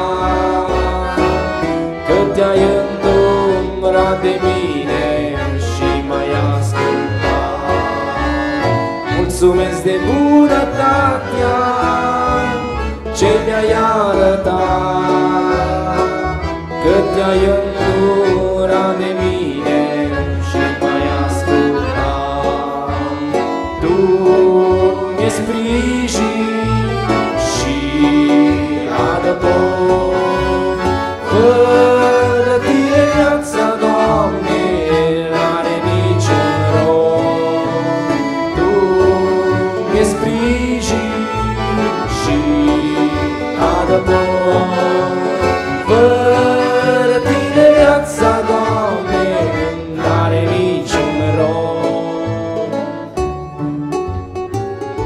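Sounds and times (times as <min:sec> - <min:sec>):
accordion: 0:00.0 - 0:55.0
acoustic guitar: 0:00.0 - 0:55.0
gospel band playing: 0:00.0 - 0:55.0
keyboard: 0:00.0 - 0:55.0.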